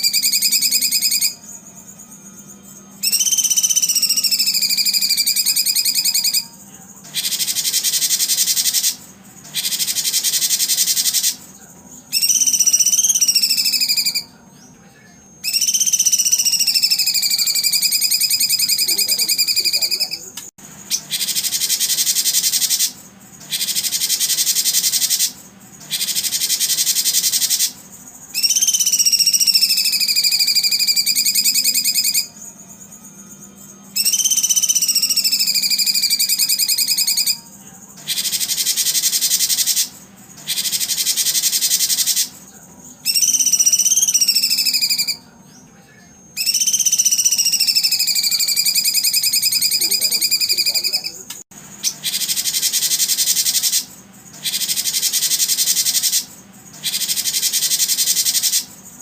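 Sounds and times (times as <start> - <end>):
recorded buzzy bird trill: 0.0 - 59.0
whistled bird notes: 0.0 - 59.0.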